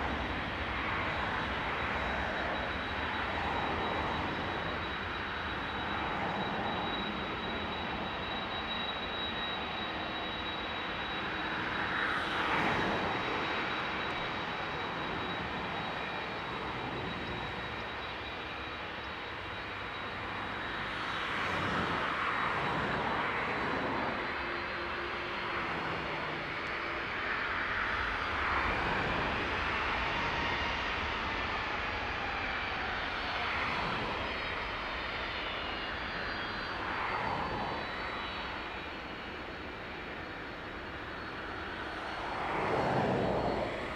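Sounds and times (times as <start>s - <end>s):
jet engines running at low thrust: 0.0s - 43.9s.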